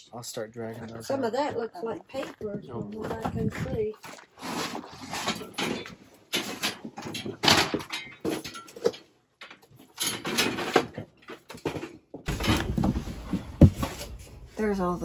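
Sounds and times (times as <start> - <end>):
boxes and bins being shifted: 2.9 - 15.0.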